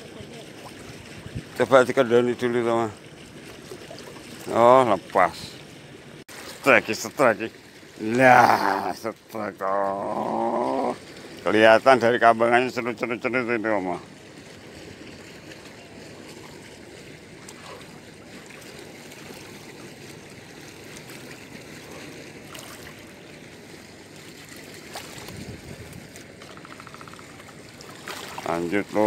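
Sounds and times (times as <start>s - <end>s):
small waves lapping against a wall: 0.0s - 29.0s.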